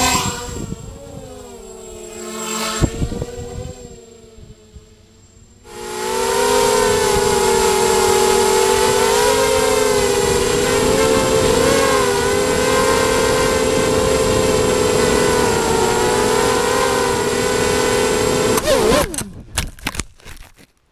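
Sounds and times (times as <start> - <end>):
quadcopter motors whining: 0.0 - 19.5.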